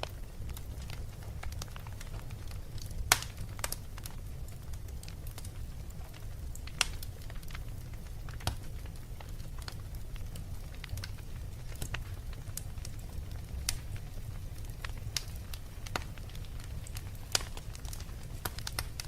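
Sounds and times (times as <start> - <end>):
low rumble of fire: 0.0 - 19.0
wood fire crackling and popping: 0.0 - 19.0.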